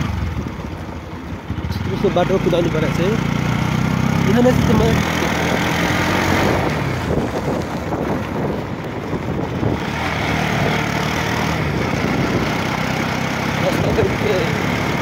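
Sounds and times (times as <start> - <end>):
road noise on dirt road: 0.0 - 15.0
vehicle engine running: 0.0 - 15.0.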